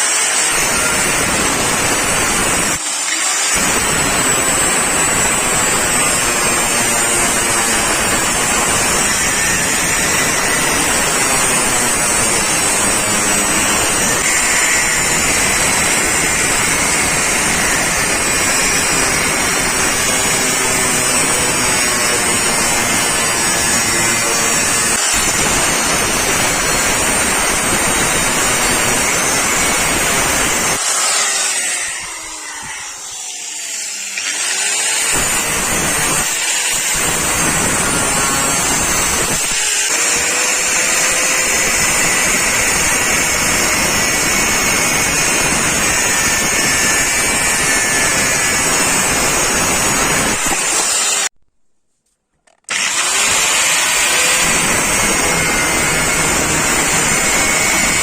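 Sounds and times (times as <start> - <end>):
power grinder grinding steel: 0.0 - 51.3, 52.5 - 58.0.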